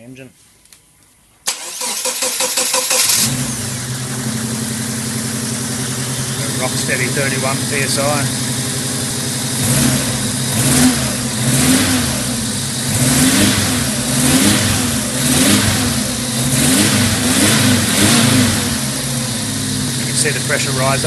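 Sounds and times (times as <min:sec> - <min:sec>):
car engine revving: 0:01.5 - 0:21.0.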